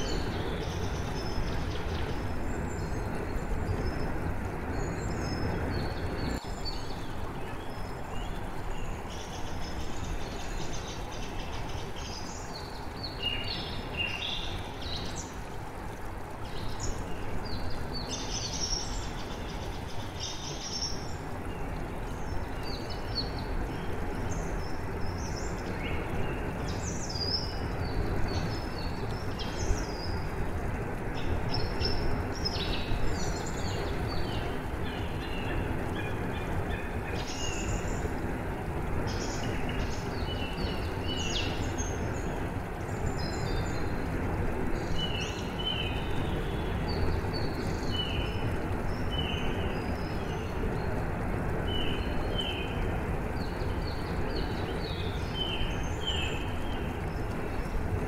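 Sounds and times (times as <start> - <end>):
falling water rushing: 0.0 - 58.0
songbirds chirping and trilling: 0.0 - 58.0.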